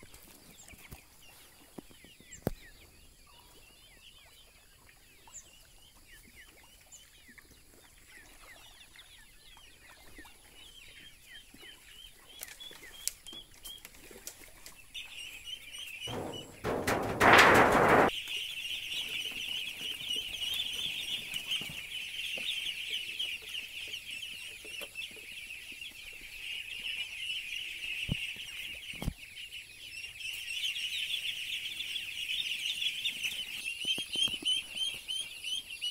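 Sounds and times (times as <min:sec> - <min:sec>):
ducklings and chicks peeping: 0:00.0 - 0:35.9
hens chirping and clucking: 0:00.0 - 0:35.9.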